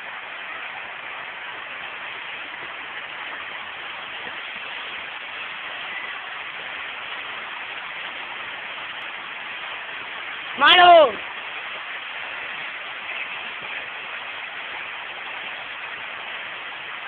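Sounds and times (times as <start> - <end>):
fountain water rushing: 0.0 - 17.0.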